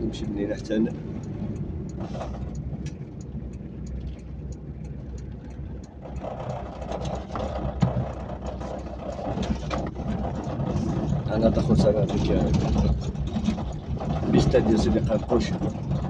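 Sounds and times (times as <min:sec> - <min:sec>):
car engine rumble: 0:00.0 - 0:16.0
tyre noise on road: 0:00.0 - 0:16.0.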